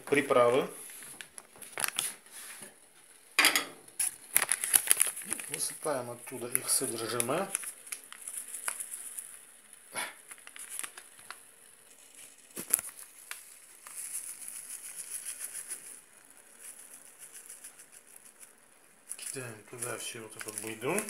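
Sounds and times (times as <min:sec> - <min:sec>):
faint steady hiss: 0:00.0 - 0:21.0
paper packets crinkling: 0:00.5 - 0:02.5, 0:03.9 - 0:21.0.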